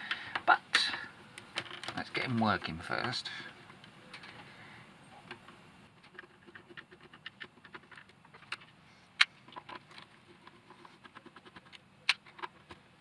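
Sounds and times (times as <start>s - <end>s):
plastic parts clicking and tapping: 0.0s - 4.5s, 5.2s - 12.9s.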